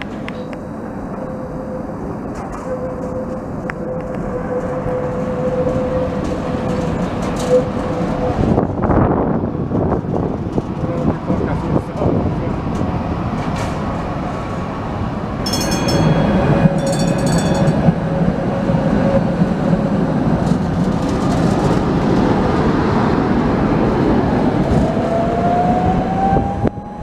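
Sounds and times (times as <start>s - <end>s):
tram motor whine rising: 0.0s - 11.0s, 12.1s - 27.0s
tram wheels and motor rumbling: 0.0s - 27.0s.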